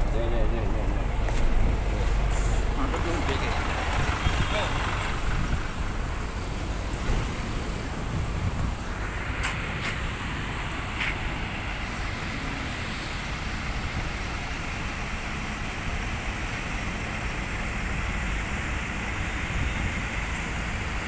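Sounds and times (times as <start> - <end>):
diesel bus engine rumbling: 0.0 - 21.0
roadside traffic: 0.0 - 21.0.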